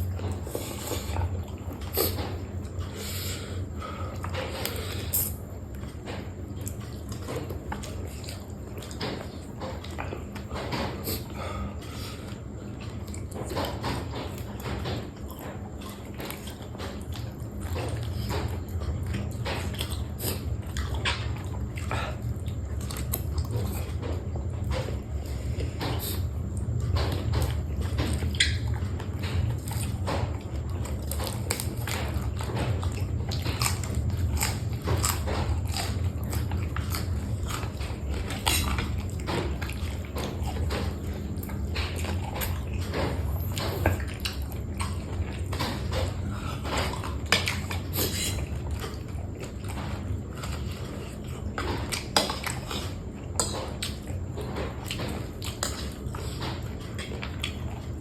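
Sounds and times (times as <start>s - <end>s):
crunchy food chewing: 0.0s - 58.0s
steady low hum: 0.0s - 58.0s.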